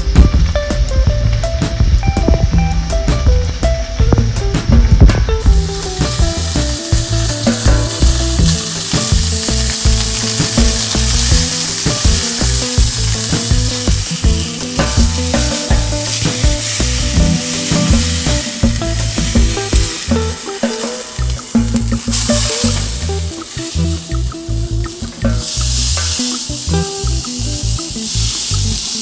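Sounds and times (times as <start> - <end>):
background music: 0.0 - 29.0
food sizzling in a pan: 5.5 - 29.0.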